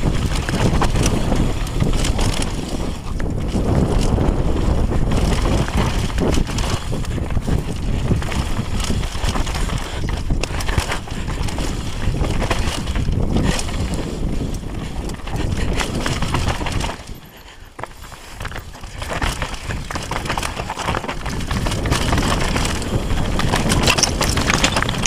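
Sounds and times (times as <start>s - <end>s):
bike rattling and knocking: 0.0s - 25.0s
bike tyres on gravel: 0.0s - 25.0s
wind rushing over microphone: 0.0s - 25.0s.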